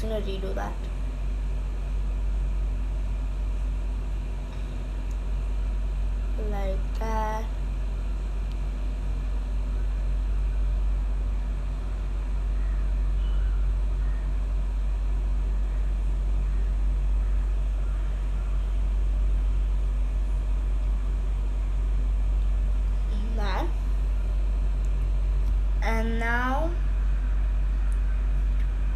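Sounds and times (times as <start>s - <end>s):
low background rumble: 0.0s - 28.9s.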